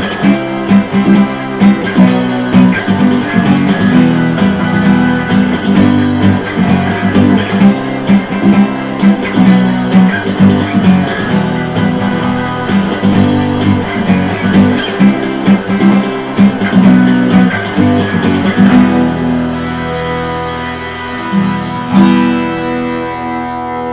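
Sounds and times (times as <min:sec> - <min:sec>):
guitar strumming rock chords: 0:00.0 - 0:23.9.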